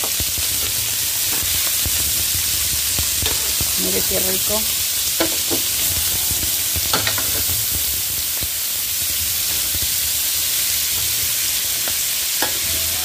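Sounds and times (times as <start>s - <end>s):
meat and onion sizzling in a pan: 0.0s - 13.0s.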